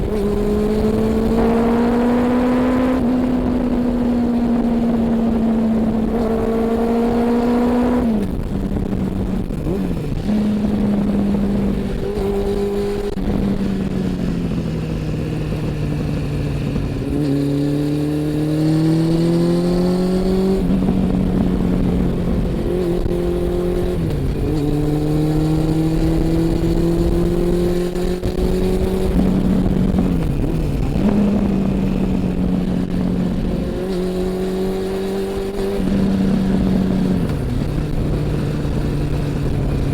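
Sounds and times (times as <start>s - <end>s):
motorcycle engine revving: 0.0s - 39.9s
road noise: 0.0s - 39.9s
wind noise: 0.0s - 39.9s.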